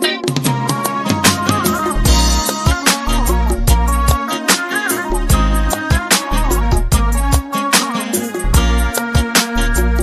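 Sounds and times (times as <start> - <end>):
intro music with driving beat: 0.0 - 10.0.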